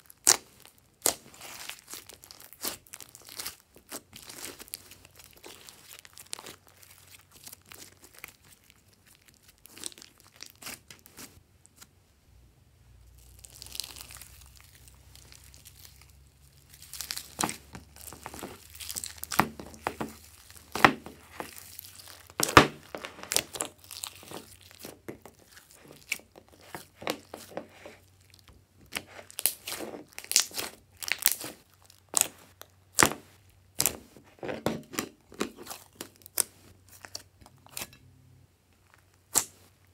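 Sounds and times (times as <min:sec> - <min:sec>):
sticky slime crackles and pops: 0:00.0 - 0:11.4, 0:13.2 - 0:27.6, 0:28.2 - 0:34.1, 0:38.8 - 0:39.8.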